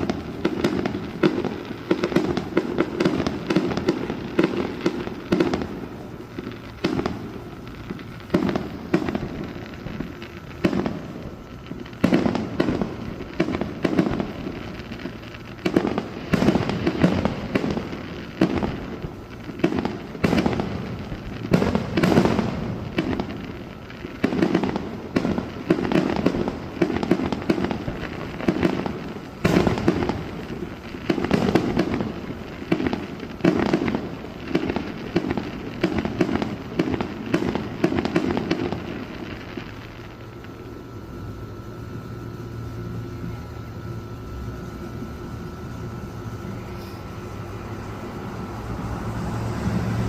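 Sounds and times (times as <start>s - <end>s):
fireworks booming and crackling: 0.0s - 50.0s
steady low hum: 0.0s - 50.0s.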